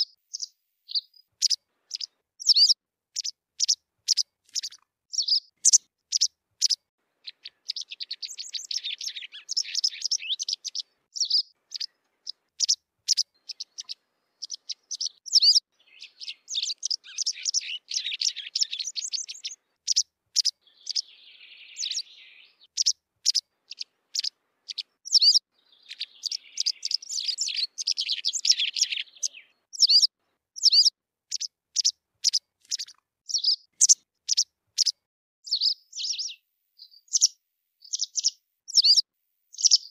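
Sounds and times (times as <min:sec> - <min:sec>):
rapid twittering birdsong: 0:00.0 - 0:39.9
wagtail chirping: 0:00.0 - 0:39.9.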